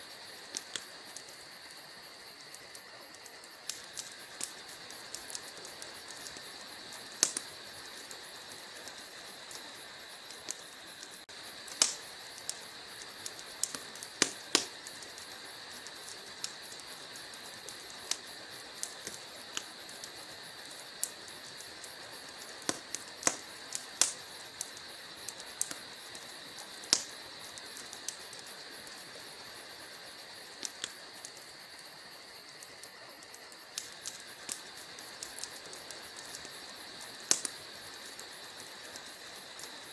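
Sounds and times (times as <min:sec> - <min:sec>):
steady high hiss: 0:00.0 - 0:39.9
wood logs crackling in fireplace: 0:00.0 - 0:39.9.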